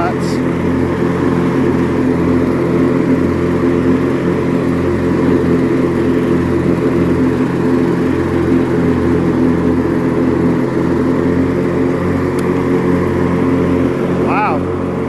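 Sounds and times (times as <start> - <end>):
riding mower engine cutting grass: 0.0 - 15.0.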